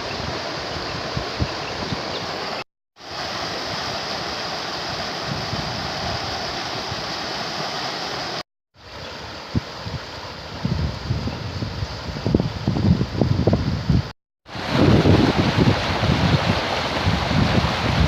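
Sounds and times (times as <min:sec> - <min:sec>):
heavy rain hissing: 0:00.0 - 0:13.6, 0:14.5 - 0:18.0.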